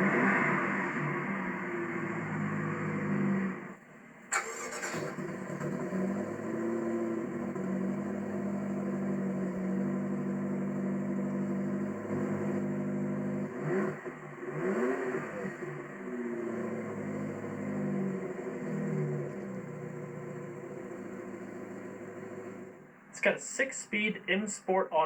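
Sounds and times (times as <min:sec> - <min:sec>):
engine revving: 0:00.0 - 0:22.9
car engine idling: 0:00.0 - 0:25.0.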